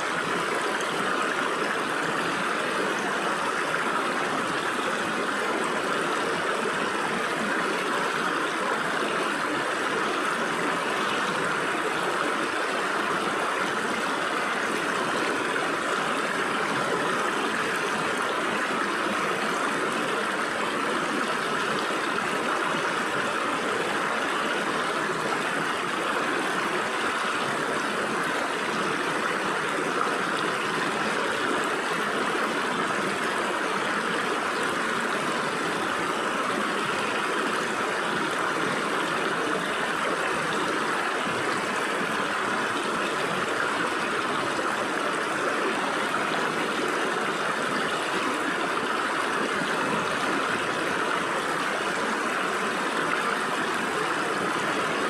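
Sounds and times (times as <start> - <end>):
shallow stream splashing over rocks: 0.0 - 55.0.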